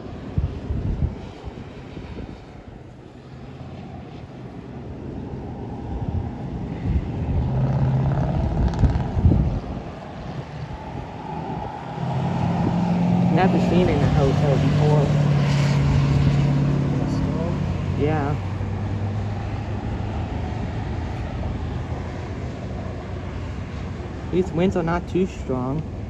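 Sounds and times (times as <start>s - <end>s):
low rumble: 0.0s - 26.0s
wind buffeting microphone: 0.0s - 26.0s.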